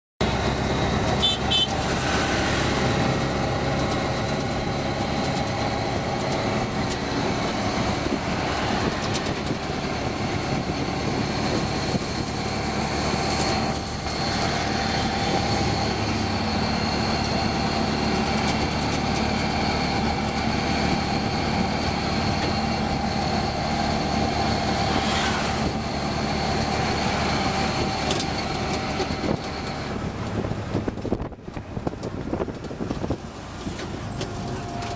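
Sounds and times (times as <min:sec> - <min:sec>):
small engine running: 0:00.2 - 0:29.5
road noise: 0:00.2 - 0:34.9
wind noise: 0:00.3 - 0:34.9.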